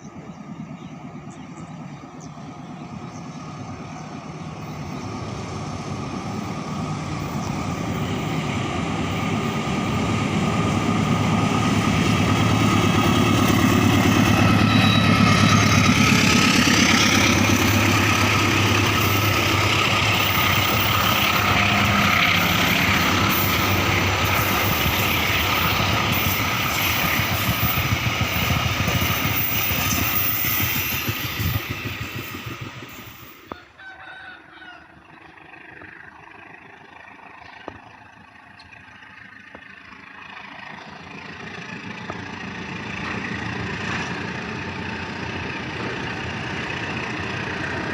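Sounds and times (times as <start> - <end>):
diesel train passing: 0.0 - 47.9.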